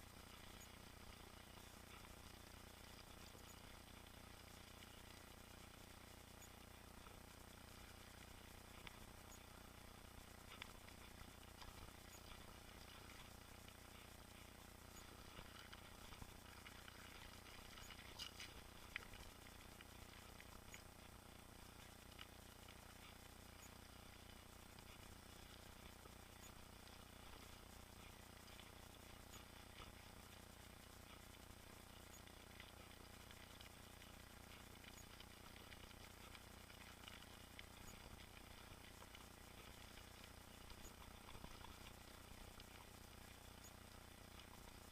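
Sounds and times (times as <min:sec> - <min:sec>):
bike tyres crackling on trail: 0:00.0 - 0:43.6.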